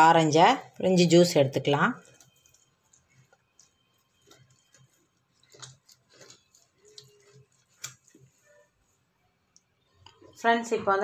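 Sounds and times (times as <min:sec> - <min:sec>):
orange squishing on citrus reamer: 0:00.0 - 0:10.4.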